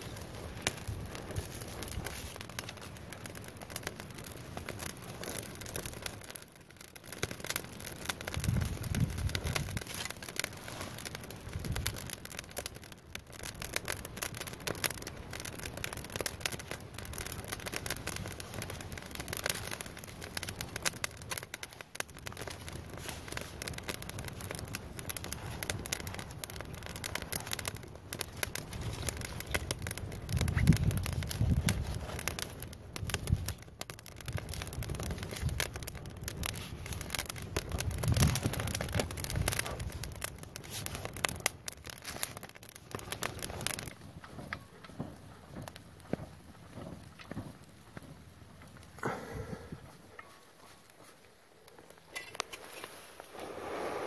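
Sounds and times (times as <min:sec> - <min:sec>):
kindling crackling: 0:00.0 - 0:54.0.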